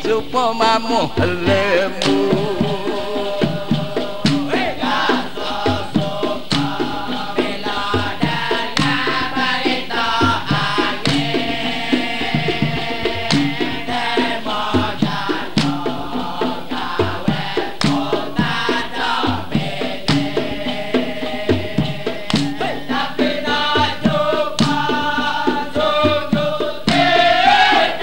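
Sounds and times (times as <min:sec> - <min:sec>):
chorus of voices singing: 0:00.0 - 0:28.0
percussion beat: 0:00.0 - 0:28.0.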